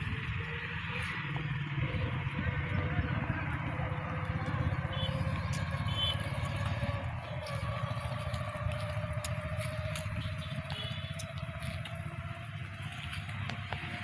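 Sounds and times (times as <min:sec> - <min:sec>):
motor running: 0:01.8 - 0:14.0.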